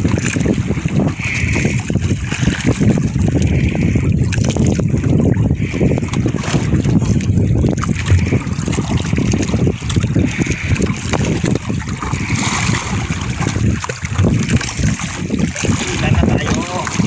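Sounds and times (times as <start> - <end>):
water sloshing against hull: 0.0 - 17.0
wind buffeting microphone: 0.0 - 17.0.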